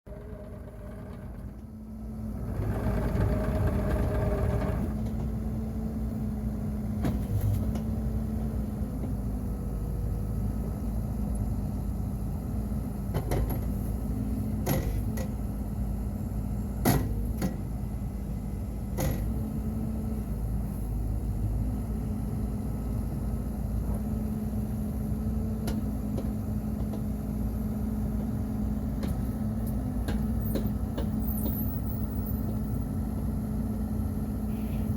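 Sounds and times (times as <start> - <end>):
mini excavator diesel engine: 0.1 - 34.9.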